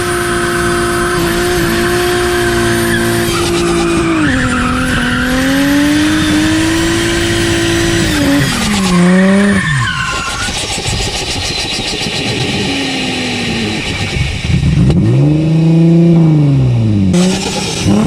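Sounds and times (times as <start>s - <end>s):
turbocharger whine: 0.0s - 18.0s.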